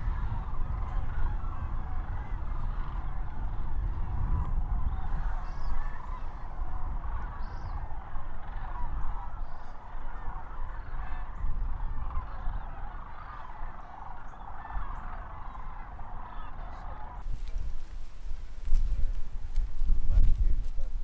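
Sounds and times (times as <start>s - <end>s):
flock of cranes calling: 0.0s - 21.0s.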